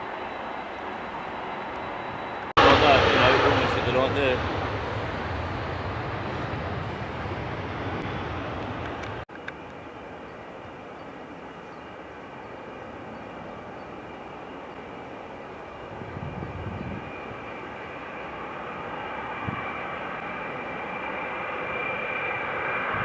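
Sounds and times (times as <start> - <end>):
high engine whine: 0.0 - 23.0
jet engines running: 0.0 - 23.0.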